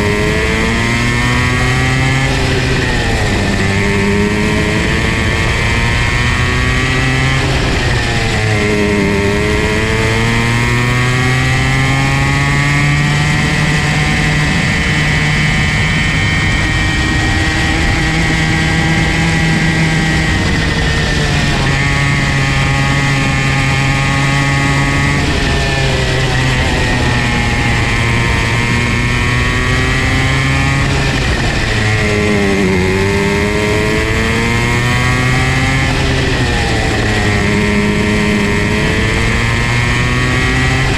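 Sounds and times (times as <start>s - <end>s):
two-stroke kart engine revving: 0.0s - 40.9s.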